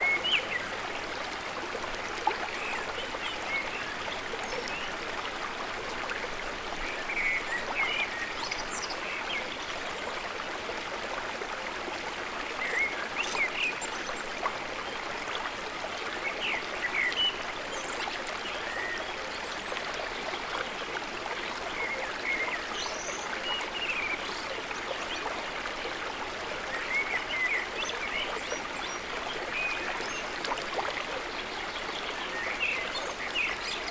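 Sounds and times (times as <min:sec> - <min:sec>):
flowing water: 0:00.0 - 0:33.9.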